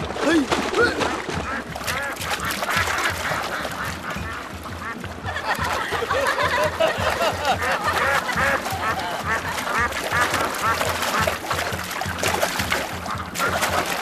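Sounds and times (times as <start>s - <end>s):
low drumbeat: 0.0s - 14.0s
ducks quacking: 0.1s - 14.0s.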